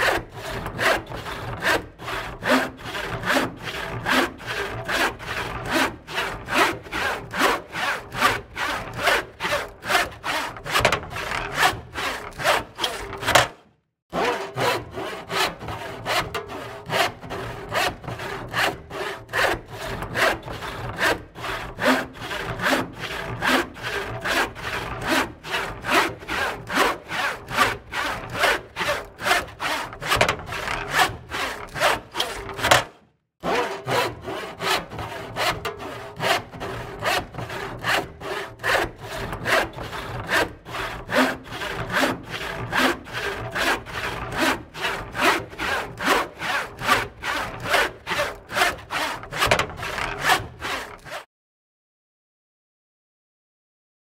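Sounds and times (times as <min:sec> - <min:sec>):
hand saw cutting wood: 0:00.0 - 0:51.3.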